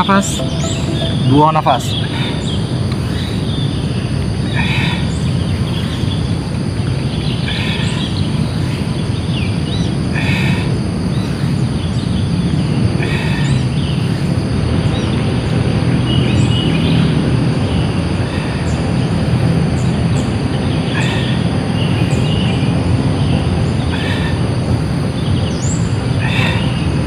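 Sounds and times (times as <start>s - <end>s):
low outdoor background noise: 0.0s - 27.0s.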